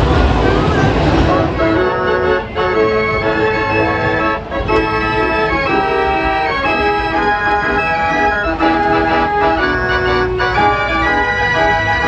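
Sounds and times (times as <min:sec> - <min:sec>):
fairground organ playing: 0:00.0 - 0:12.0.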